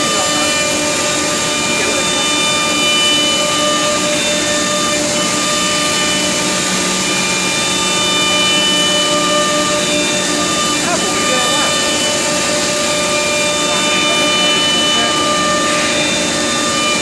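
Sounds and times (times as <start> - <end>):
wood router whining: 0.0 - 17.0.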